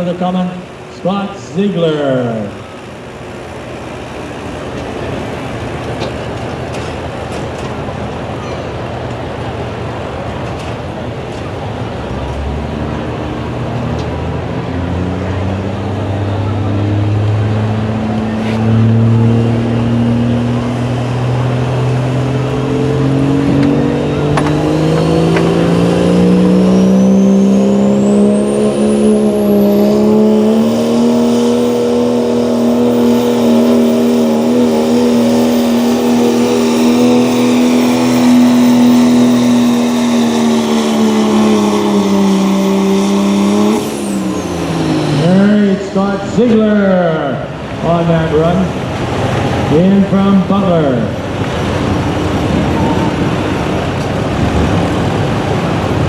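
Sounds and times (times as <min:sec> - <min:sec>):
diesel engine under full load: 0:00.0 - 0:56.0.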